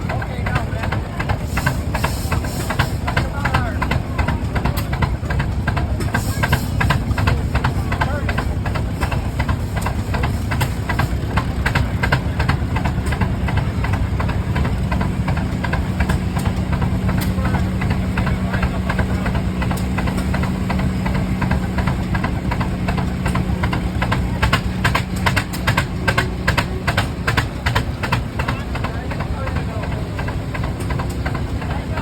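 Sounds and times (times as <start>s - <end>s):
tractor engines chugging: 0.0s - 32.0s.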